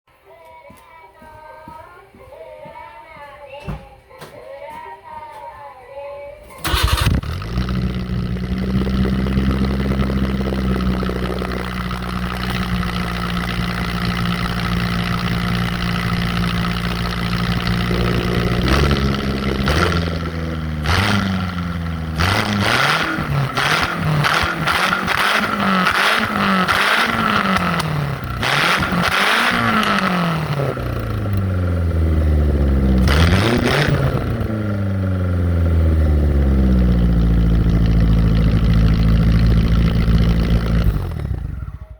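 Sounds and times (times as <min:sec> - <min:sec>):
car engine idling and revving: 0:06.6 - 0:41.9.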